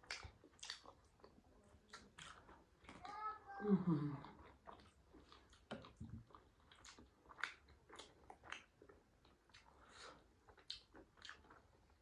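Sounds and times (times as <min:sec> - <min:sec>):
faint chewing mouth smacks: 0:00.0 - 0:03.2, 0:04.2 - 0:12.0.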